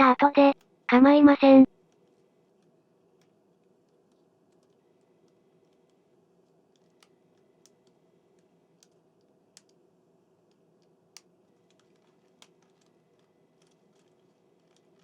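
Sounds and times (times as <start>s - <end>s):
plastic parts clicking together: 1.8s - 9.8s, 10.4s - 15.0s.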